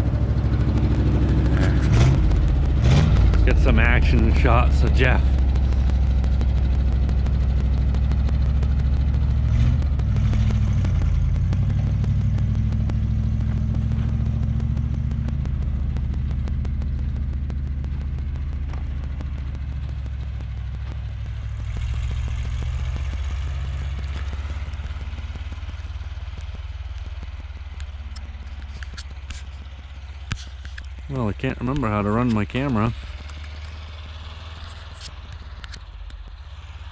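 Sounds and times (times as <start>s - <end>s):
truck engine running: 0.0s - 36.9s.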